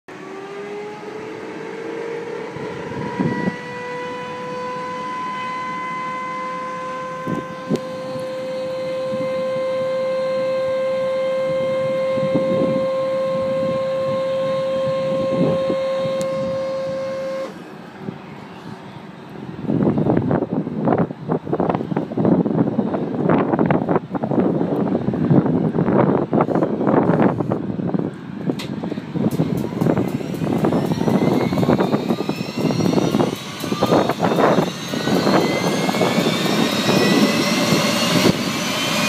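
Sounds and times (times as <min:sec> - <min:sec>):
gas turbine whine: 0:00.1 - 0:39.0.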